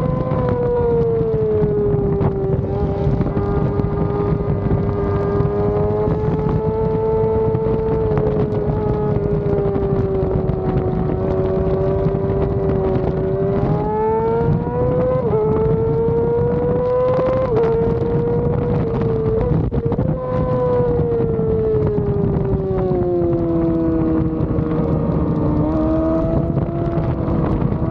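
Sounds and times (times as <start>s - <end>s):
motorcycle engine at high revs: 0.0s - 27.9s
wind rush: 0.0s - 27.9s.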